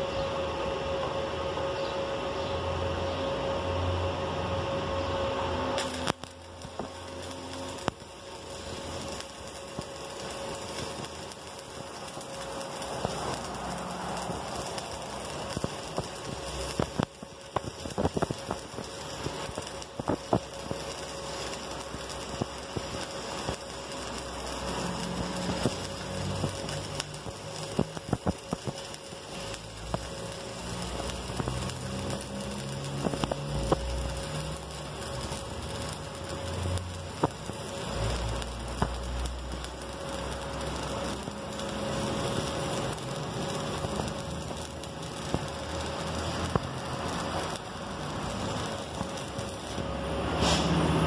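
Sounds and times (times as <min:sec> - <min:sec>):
steady hum: 0:00.0 - 0:50.6
welding arc crackling: 0:03.6 - 0:51.0.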